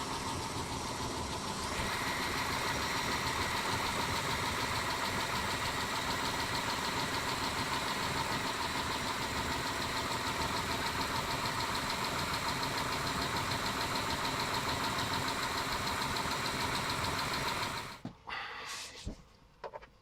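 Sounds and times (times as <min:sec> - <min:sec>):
car engine idling with ticking: 0:00.0 - 0:18.0.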